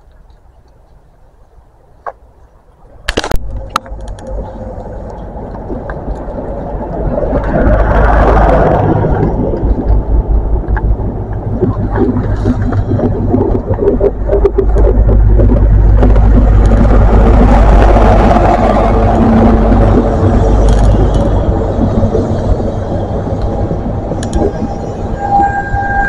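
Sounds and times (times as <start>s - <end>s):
train rumbling past: 3.6s - 26.0s.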